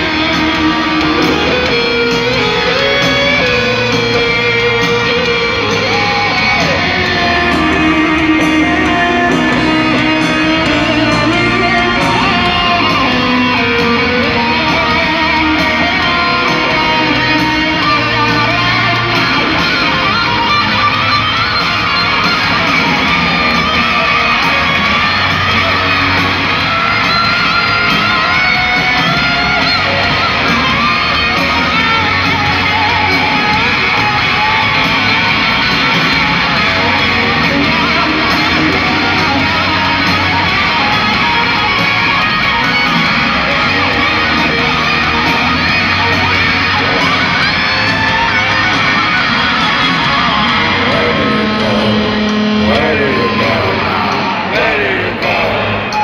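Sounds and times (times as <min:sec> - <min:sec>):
electric guitar solo: 0:00.0 - 0:56.0
rock band playing live: 0:00.0 - 0:56.0.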